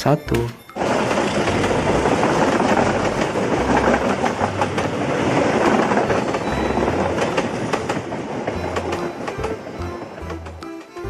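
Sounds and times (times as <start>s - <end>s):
rumble of wheels on rail: 0.0s - 11.0s
wheels clattering over rail joints: 0.0s - 11.0s.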